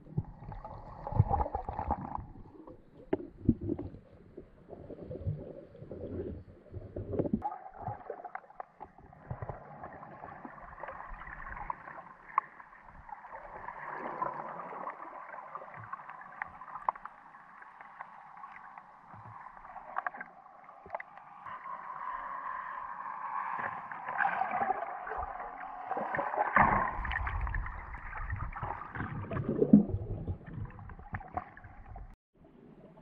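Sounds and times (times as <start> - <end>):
sea water sloshing: 0.0 - 32.2.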